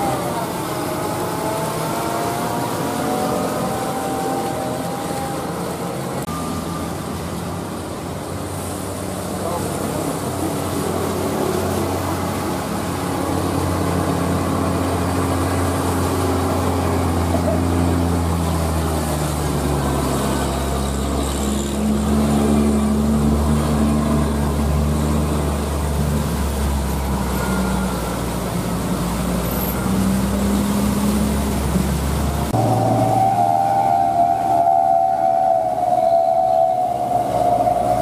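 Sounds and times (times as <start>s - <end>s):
diesel truck engine labouring: 0.0s - 38.0s.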